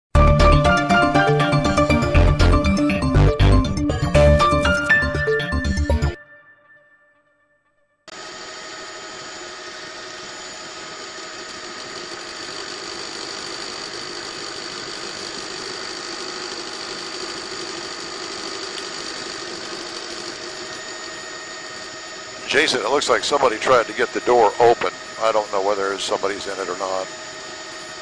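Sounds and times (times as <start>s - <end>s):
helicopter engine and rotor: 0.2s - 6.2s, 8.1s - 28.0s.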